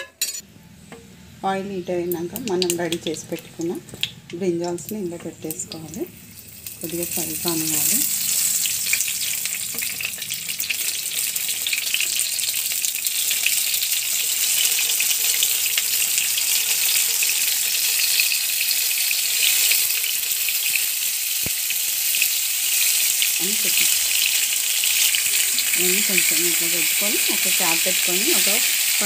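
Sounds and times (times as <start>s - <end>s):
vegetables sizzling in hot oil: 1.4s - 29.0s.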